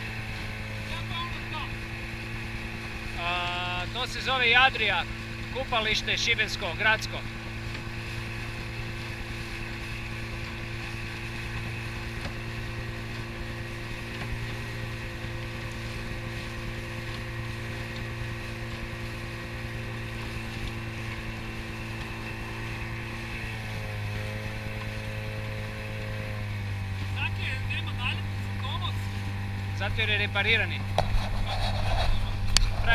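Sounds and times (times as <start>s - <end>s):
outboard motor running: 0.0s - 32.9s
water rushing along hull: 0.0s - 32.9s.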